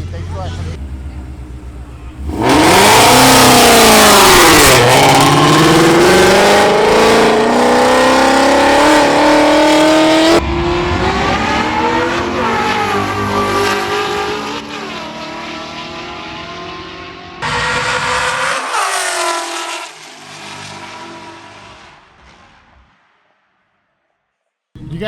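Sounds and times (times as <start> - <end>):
car engine at full throttle: 0.0 - 22.9.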